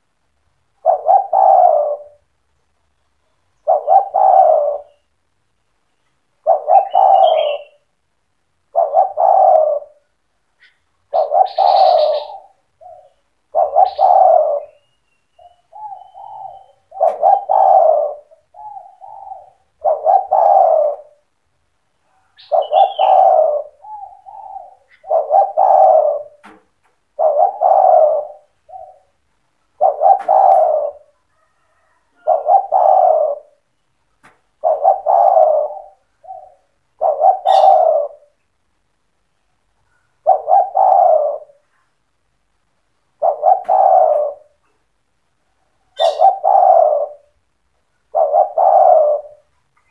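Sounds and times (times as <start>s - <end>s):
dove cooing: 0.0s - 2.4s, 3.6s - 5.1s, 6.4s - 7.9s, 8.6s - 33.7s, 34.5s - 38.4s, 39.8s - 42.0s, 43.0s - 49.9s.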